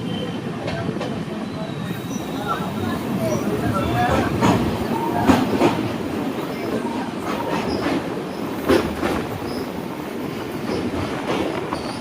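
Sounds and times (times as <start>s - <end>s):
train rumbling on rails: 0.0s - 12.0s
wheels clanking on track: 1.9s - 12.0s.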